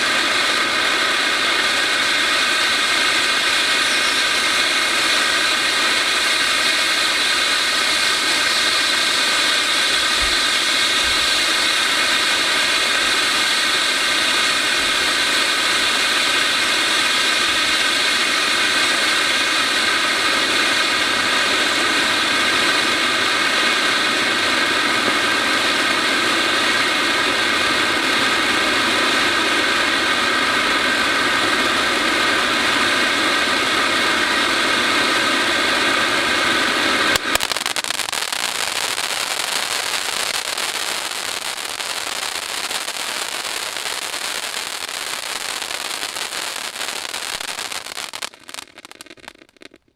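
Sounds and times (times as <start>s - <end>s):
firework fountain hissing: 0.0s - 49.9s.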